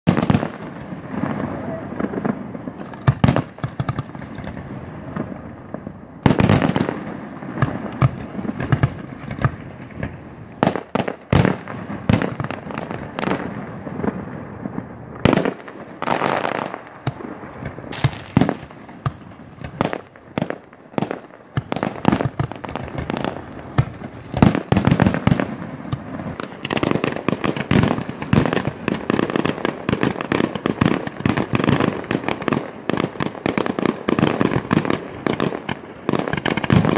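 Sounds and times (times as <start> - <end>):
fireworks booming: 0.1 - 36.9
fireworks crackle: 0.1 - 36.9.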